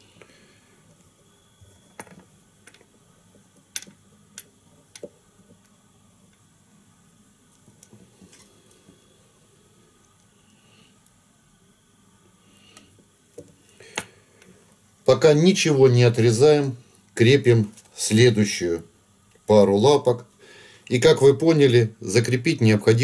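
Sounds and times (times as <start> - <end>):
faint room hiss: 0.0 - 23.0.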